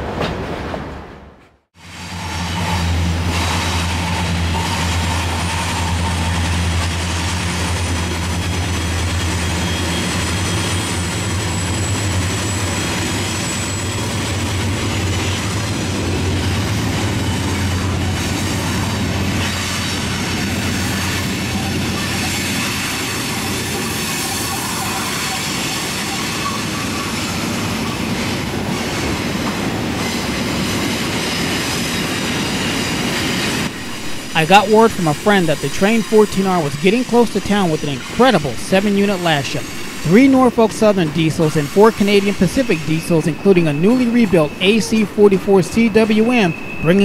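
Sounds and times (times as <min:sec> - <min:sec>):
train wheels rumbling on rail: 0:00.0 - 0:46.8
diesel locomotive engine drone: 0:01.8 - 0:47.0.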